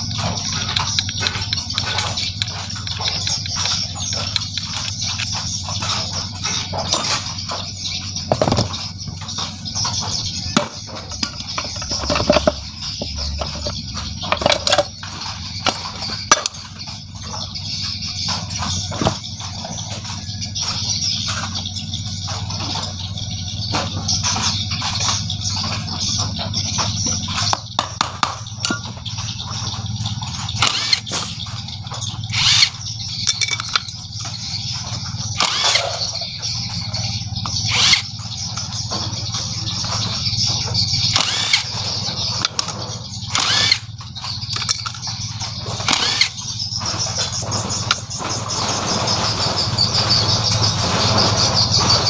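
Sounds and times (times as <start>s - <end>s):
low mechanical throb: 0.0s - 52.0s
metal tools clinking and knocking: 0.0s - 52.0s.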